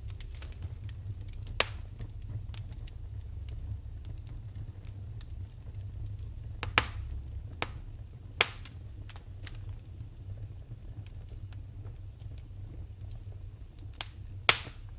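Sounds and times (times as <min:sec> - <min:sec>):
loud fire pops: 0:00.0 - 0:14.9
low rumble: 0:00.0 - 0:14.9
wood fire crackling: 0:00.0 - 0:14.9.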